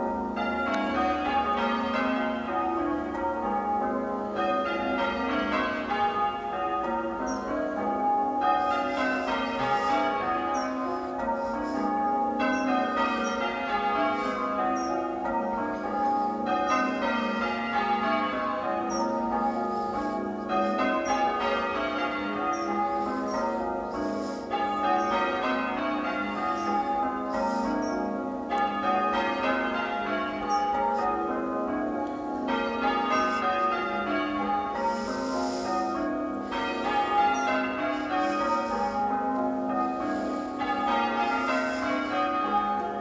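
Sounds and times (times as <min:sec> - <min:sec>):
church bells ringing changes: 0:00.0 - 0:43.0.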